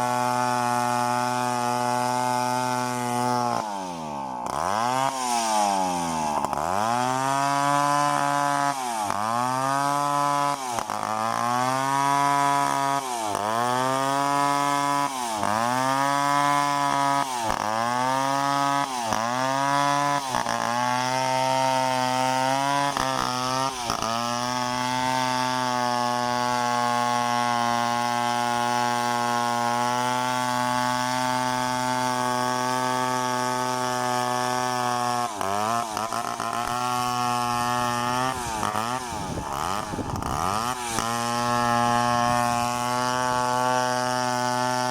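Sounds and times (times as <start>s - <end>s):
chainsaw engine running: 0.0s - 44.9s.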